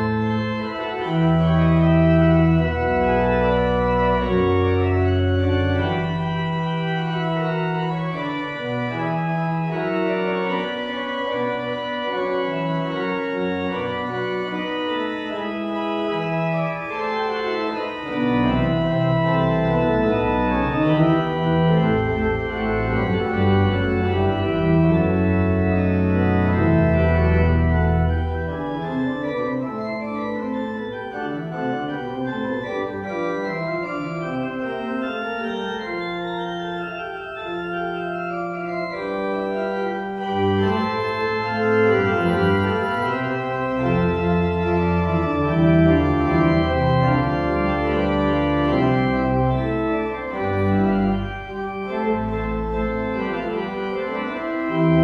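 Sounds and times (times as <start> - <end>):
deep organ pedal bass notes: 0.0 - 55.0
organ chords: 0.0 - 55.0.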